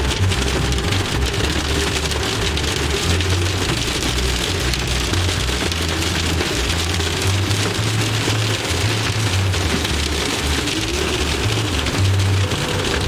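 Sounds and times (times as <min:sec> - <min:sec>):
car low rumble: 0:00.0 - 0:13.0
hail and rain on car roof: 0:00.0 - 0:13.0.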